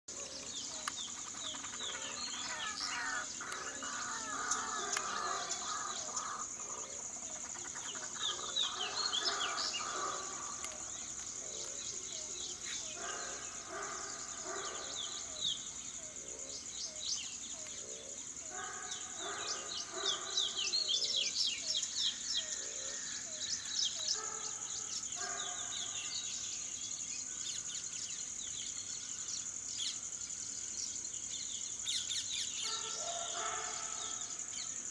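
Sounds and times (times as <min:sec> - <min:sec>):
birds calling: 0:00.1 - 0:26.7, 0:32.0 - 0:34.9.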